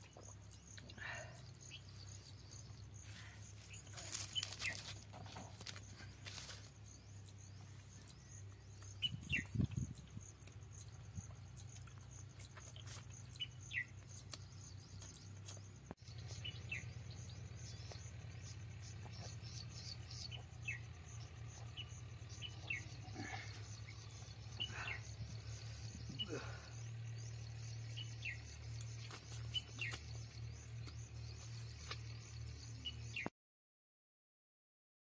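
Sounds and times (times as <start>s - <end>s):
low steady hum: 0.0s - 33.2s
small birds chirping: 0.0s - 33.3s.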